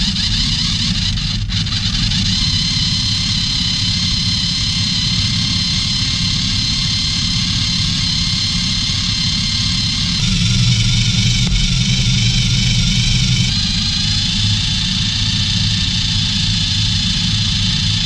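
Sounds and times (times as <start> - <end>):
rc car motor running: 0.0 - 18.0.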